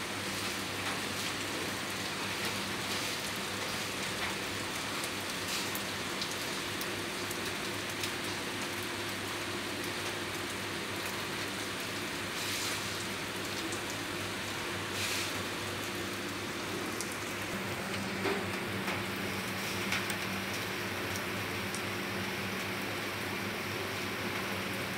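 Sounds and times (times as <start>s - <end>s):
heavy rain on concrete rooftop: 0.0s - 24.9s.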